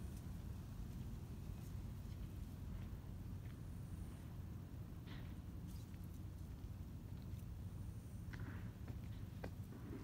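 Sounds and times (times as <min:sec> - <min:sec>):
low outdoor background rumble: 0:00.0 - 0:10.0.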